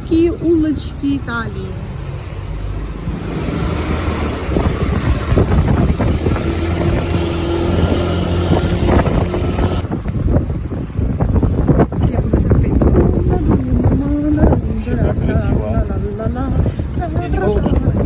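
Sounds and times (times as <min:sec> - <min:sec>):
motorbike engine running: 0:00.0 - 0:15.0
wind buffeting microphone: 0:00.0 - 0:18.0.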